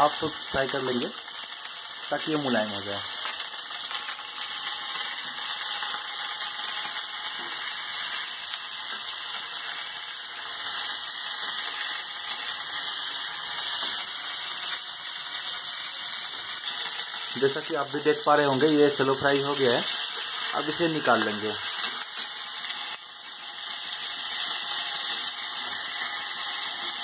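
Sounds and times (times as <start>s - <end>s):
vegetables sizzling in hot oil: 0.0s - 27.0s.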